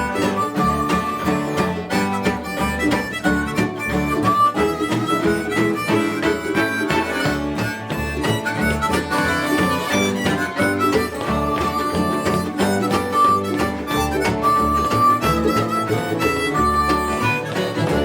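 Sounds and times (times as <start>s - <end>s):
harmonica playing melody: 0.0s - 18.0s
rhythmic acoustic guitar: 0.0s - 18.0s.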